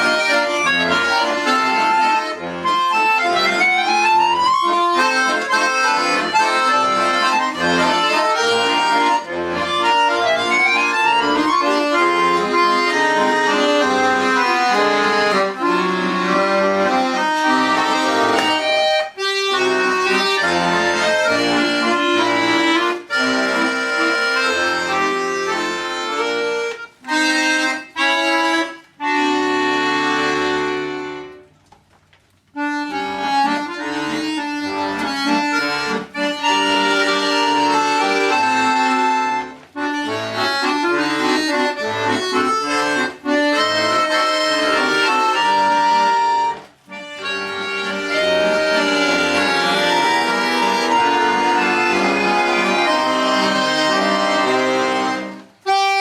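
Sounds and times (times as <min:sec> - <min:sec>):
accordions playing a waltz: 0:00.0 - 0:31.5, 0:32.5 - 0:56.0.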